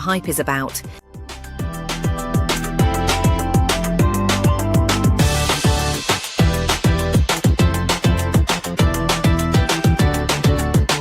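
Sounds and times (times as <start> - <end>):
electronic dance music: 0.0 - 11.0
kick-drum beat: 1.6 - 11.0.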